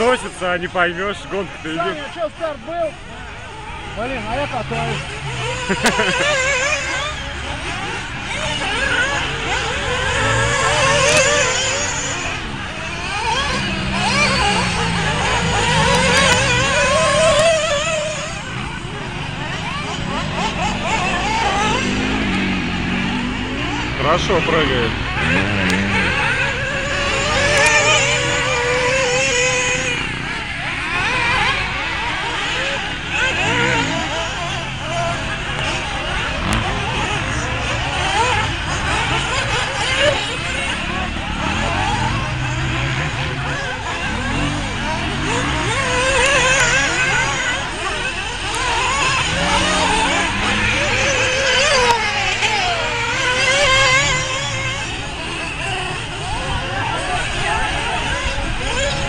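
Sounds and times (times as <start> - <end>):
small high-revving engines: 0.0 - 59.0.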